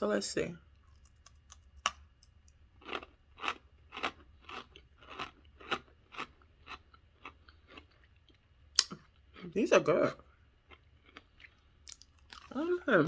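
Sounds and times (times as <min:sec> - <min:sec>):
cookie crunching while chewed: 0:00.8 - 0:09.6, 0:10.6 - 0:13.0.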